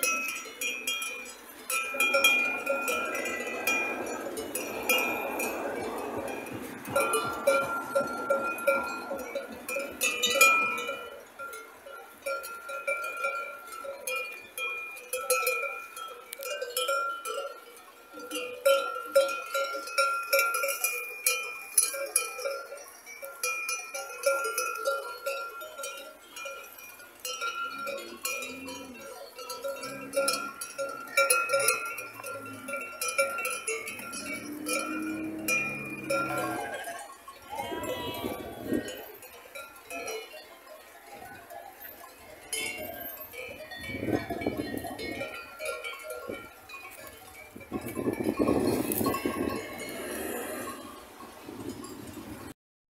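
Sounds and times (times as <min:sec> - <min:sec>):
sheep bells clanking: 0:00.0 - 0:52.5.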